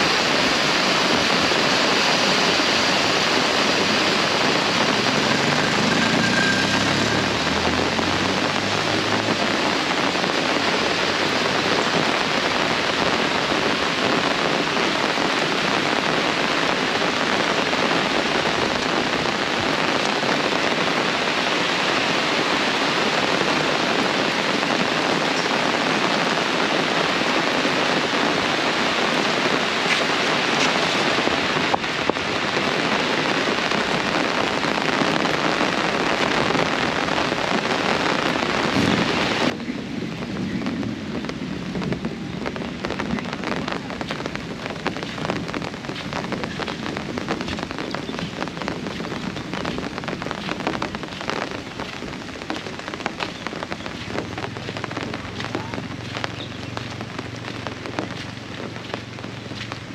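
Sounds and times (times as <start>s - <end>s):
heavy rain pouring: 0.0s - 59.9s
patter of raindrops: 0.0s - 59.9s.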